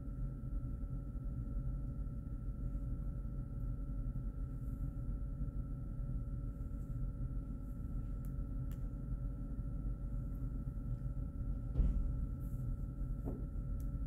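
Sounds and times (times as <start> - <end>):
faint constant hum: 0.0 - 14.0
low room rumble: 0.0 - 14.0.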